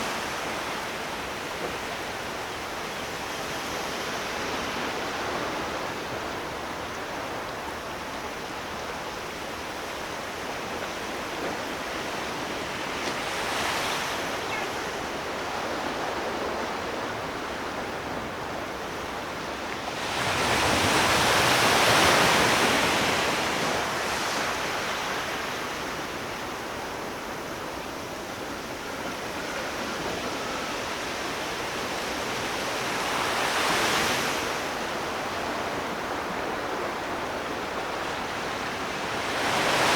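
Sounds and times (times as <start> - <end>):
ocean waves washing: 4.3 - 39.9.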